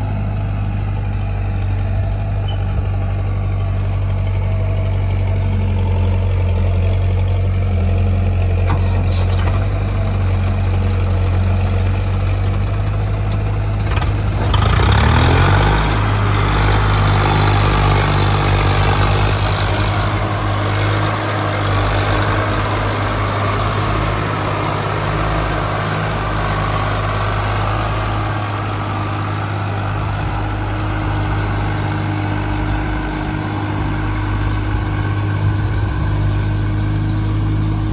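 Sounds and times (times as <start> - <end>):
heavy diesel engine revving: 0.0 - 37.9.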